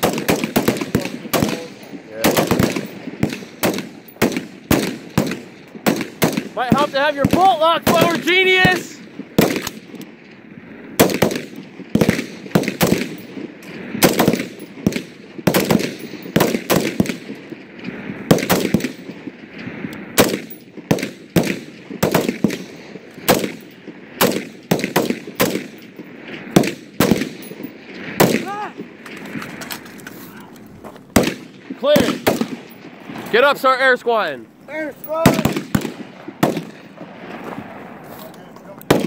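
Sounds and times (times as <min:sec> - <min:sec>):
rifle shots: 0:00.0 - 0:30.0, 0:31.1 - 0:38.1, 0:38.7 - 0:39.0.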